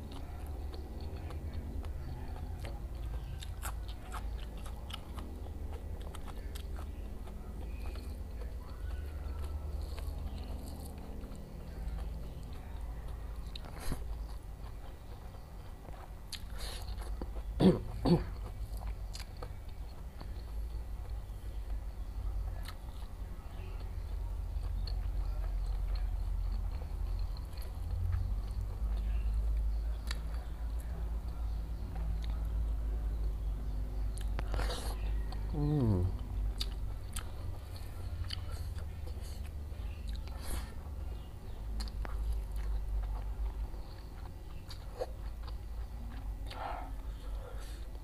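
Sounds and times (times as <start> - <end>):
person chewing food: 0.0 - 48.0
steady low hum: 0.0 - 48.0.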